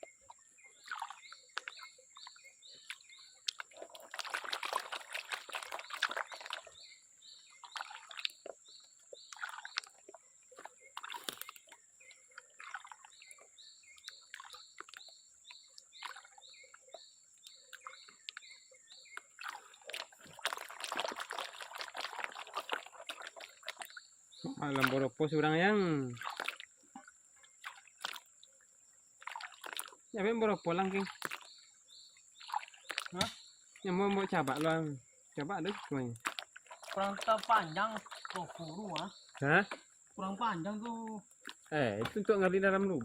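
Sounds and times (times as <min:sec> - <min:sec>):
water sloshing and trickling: 0:00.0 - 0:43.0.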